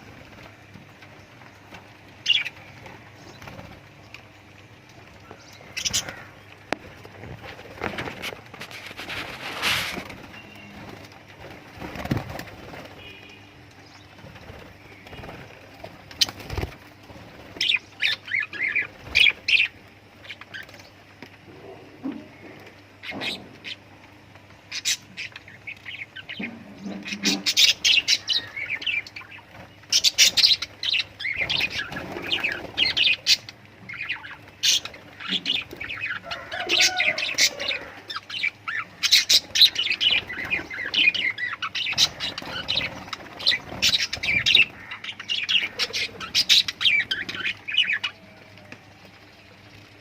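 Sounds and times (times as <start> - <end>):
lovebirds chirping: 5.2 - 50.0.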